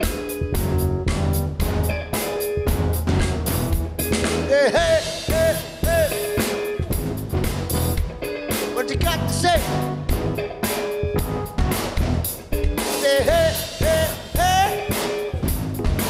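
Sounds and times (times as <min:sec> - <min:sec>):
funk band playing: 0:00.0 - 0:16.0
sliding electric guitar phrases: 0:00.0 - 0:16.0.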